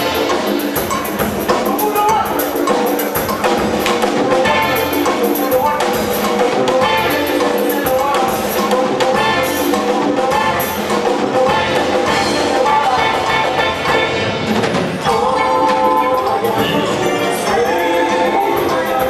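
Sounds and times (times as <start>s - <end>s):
drums and percussion beating: 0.0s - 19.0s.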